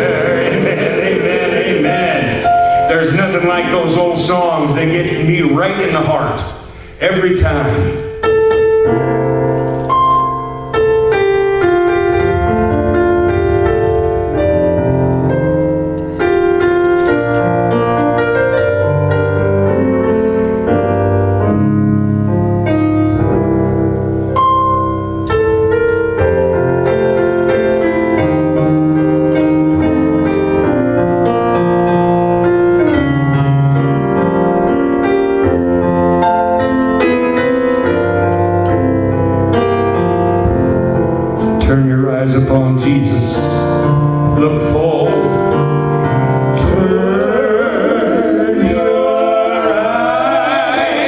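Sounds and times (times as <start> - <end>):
piano playing slow hymn chords: 0.0 - 51.0.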